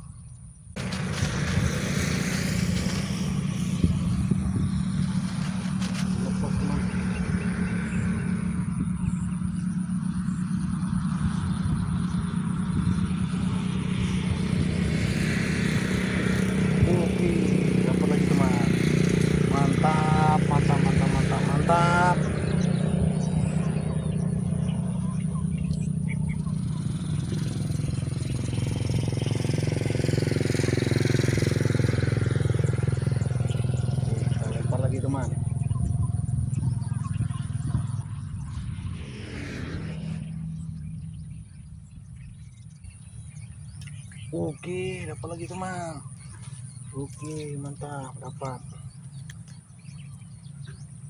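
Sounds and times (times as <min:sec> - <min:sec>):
small engine droning: 0:00.0 - 0:51.0.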